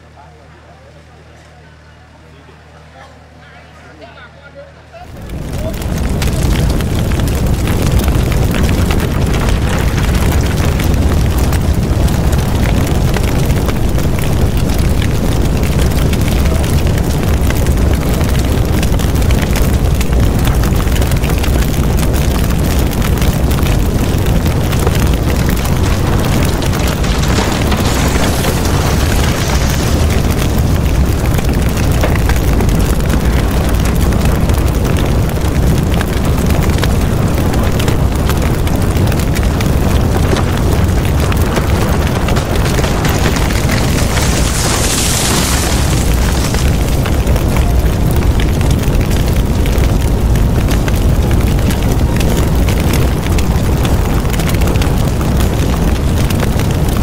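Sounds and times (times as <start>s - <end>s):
large fire crackling: 0.0s - 57.0s
low rumble: 4.8s - 57.0s.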